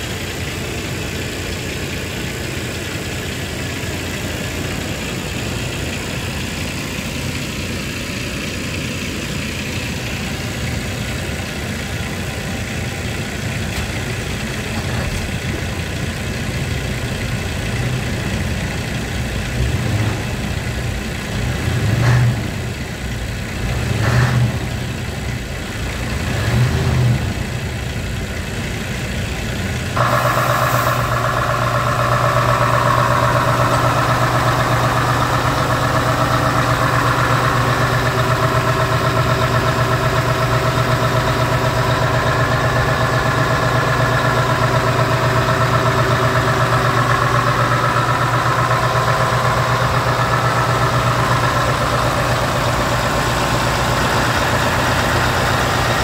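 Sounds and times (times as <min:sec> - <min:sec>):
diesel truck engine idling: 0:00.0 - 0:56.0
diesel truck engine revving: 0:00.0 - 0:56.0.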